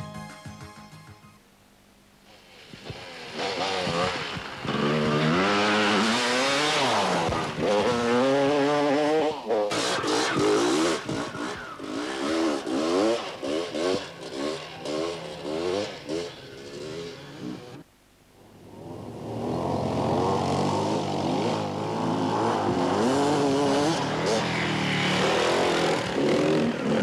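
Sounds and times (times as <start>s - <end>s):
motorcycle engines revving: 2.7s - 17.8s, 18.7s - 27.0s.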